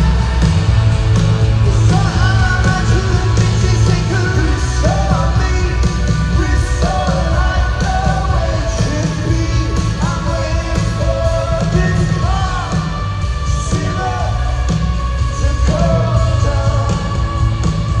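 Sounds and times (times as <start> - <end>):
bass: 0.0 - 18.0
rock band playing: 0.0 - 18.0
person singing: 1.7 - 18.0.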